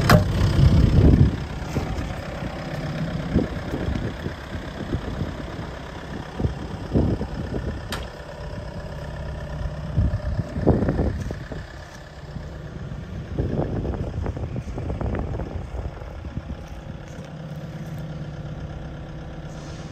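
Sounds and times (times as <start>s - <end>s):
diesel engine idling: 0.0s - 19.9s
low rumbles: 0.0s - 19.9s.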